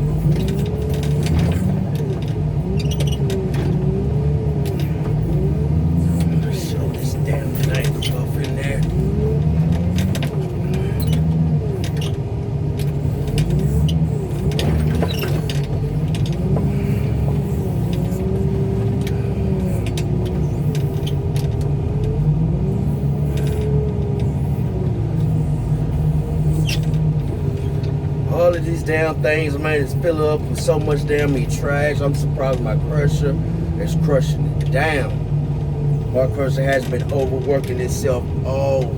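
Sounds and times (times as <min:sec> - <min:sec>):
car crusher engine and hydraulics: 0:00.0 - 0:38.9.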